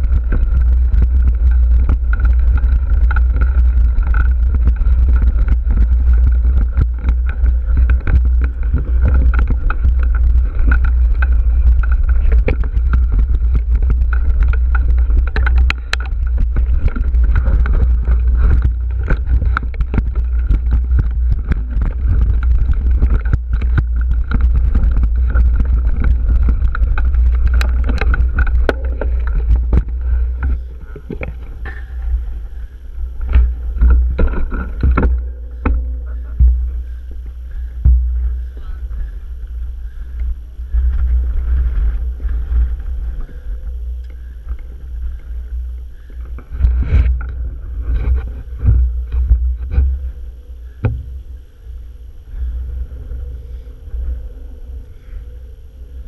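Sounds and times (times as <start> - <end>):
bike rattling over stones: 0.0 - 56.0
wind rumble on microphone: 0.0 - 56.0.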